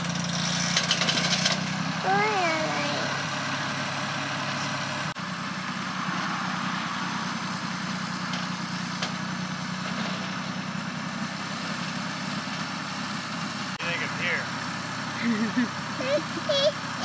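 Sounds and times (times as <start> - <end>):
tractor engine running at low revs: 0.0 - 17.0.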